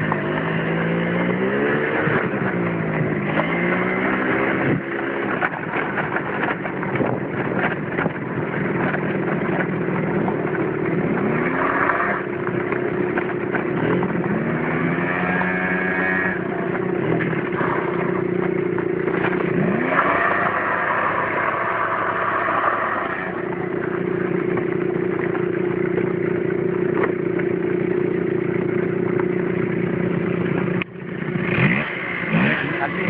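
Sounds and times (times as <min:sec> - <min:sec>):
scooter engines droning: 0:00.0 - 0:33.0.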